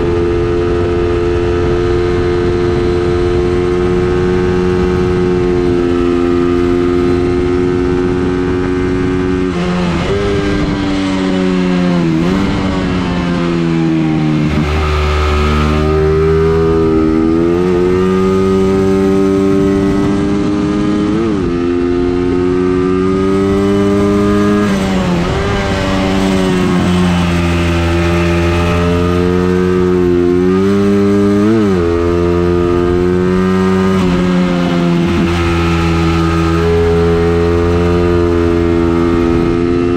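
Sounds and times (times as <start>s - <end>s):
engine revving under load: 0.0s - 39.9s.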